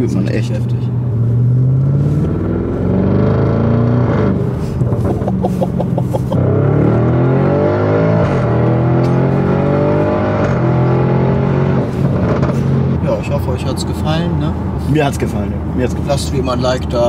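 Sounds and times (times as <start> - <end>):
car engine accelerating hard: 1.0 - 14.8.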